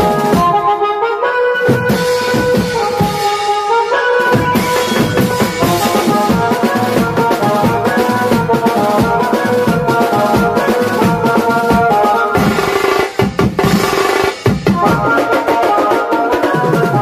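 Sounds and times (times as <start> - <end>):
drum beat: 0.0 - 0.8, 1.6 - 17.0
held melodic notes: 0.0 - 17.0.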